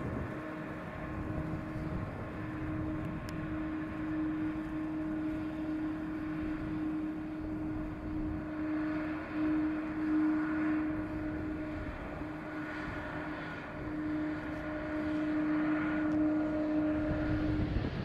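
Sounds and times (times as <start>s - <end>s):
jet engines droning: 0.0s - 18.0s.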